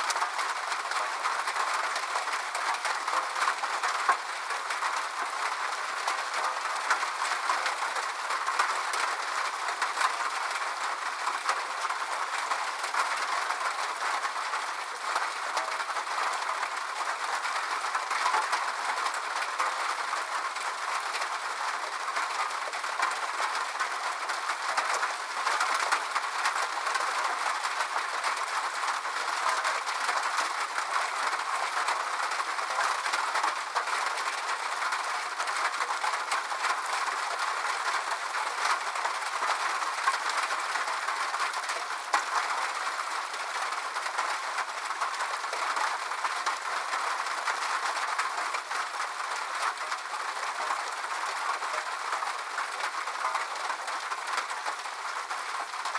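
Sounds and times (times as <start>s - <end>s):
rain on a roof: 0.0s - 55.9s.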